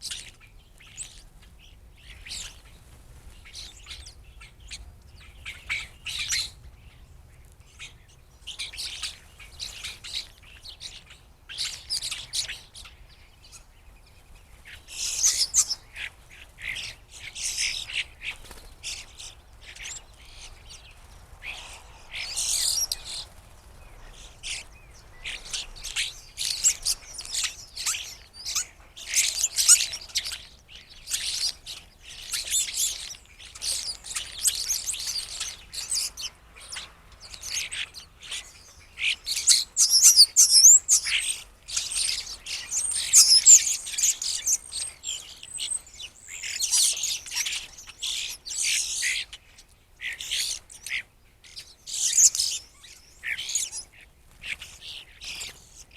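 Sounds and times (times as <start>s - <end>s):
blackbirds chirping: 0.0s - 55.9s.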